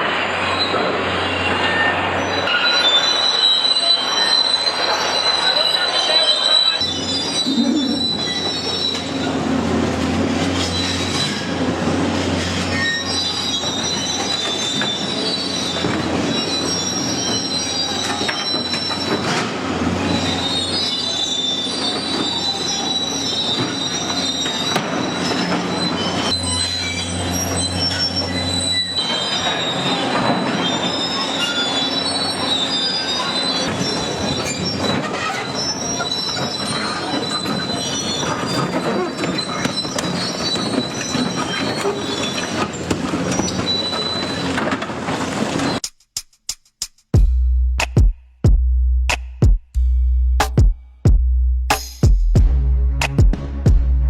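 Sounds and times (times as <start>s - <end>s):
wheels squealing on track: 0.0s - 45.8s.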